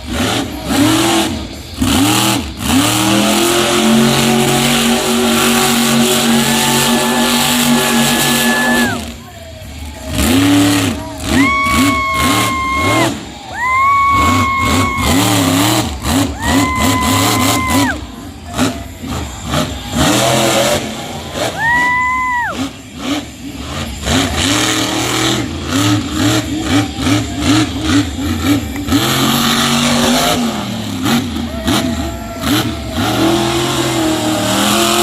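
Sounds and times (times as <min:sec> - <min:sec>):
truck engine revving hard: 0:00.0 - 0:35.0.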